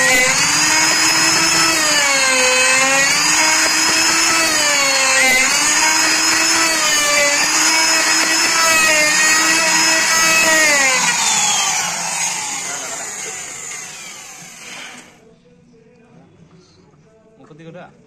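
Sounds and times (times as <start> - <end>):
electric router cutting wood: 0.0 - 15.2.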